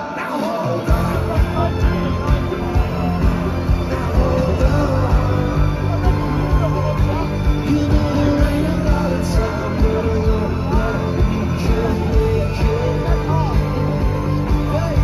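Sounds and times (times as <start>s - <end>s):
guitars: 0.0s - 15.0s
person singing: 0.0s - 15.0s
steady drum beat: 0.9s - 15.0s.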